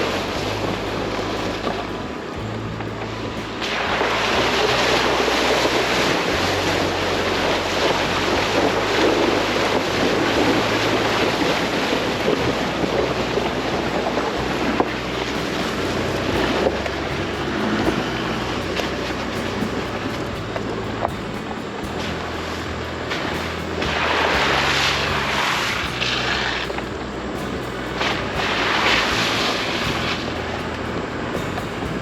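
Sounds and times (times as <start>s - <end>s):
low engine hum: 0.0s - 32.0s
tyre and wind noise: 0.0s - 32.0s.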